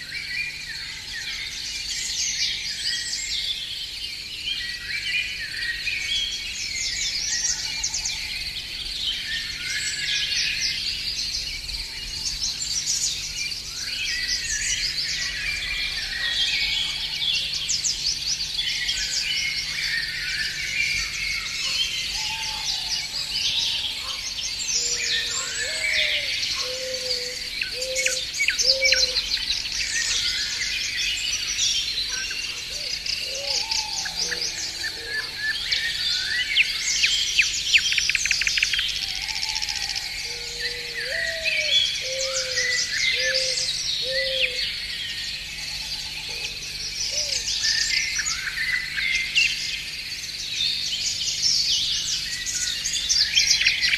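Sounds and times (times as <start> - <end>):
lower repeated bird notes: 0.0 - 53.9
songbirds chirping and trilling: 0.0 - 53.9.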